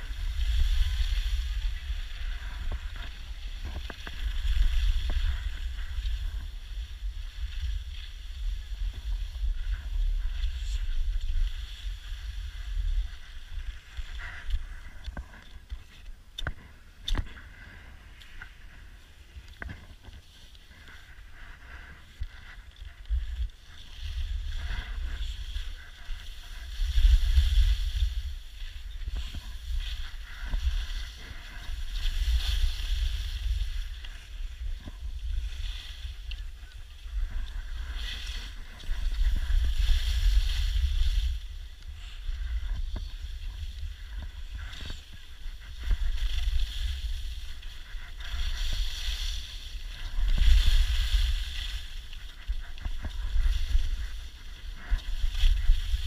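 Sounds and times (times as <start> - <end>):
skis carving over snow: 0.0 - 56.0
wind buffeting microphone: 0.0 - 56.0.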